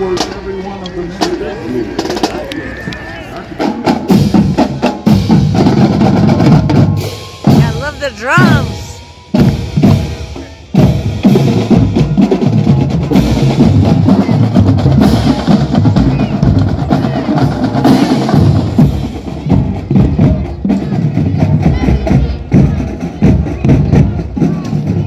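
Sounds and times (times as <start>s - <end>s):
drumline playing snare and bass drums: 0.0s - 25.0s.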